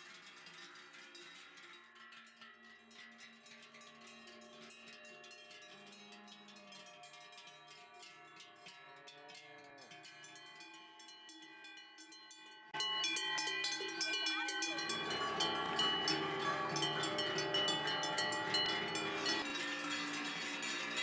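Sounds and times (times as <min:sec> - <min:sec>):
cowbells clanging: 0:00.0 - 0:21.0.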